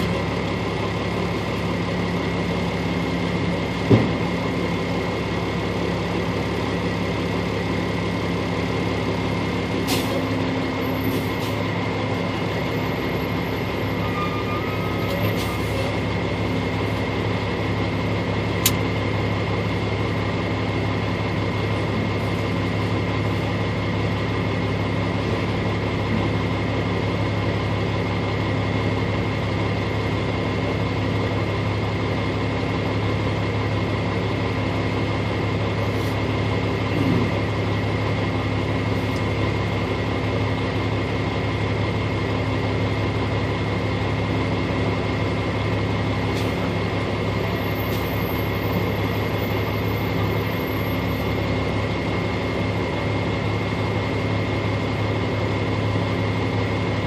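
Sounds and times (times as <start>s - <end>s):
vehicle engine running steadily: 0.0s - 57.0s.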